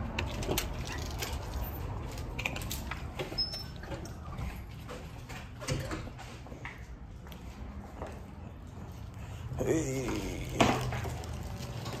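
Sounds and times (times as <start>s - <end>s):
footsteps: 1.0s - 12.0s.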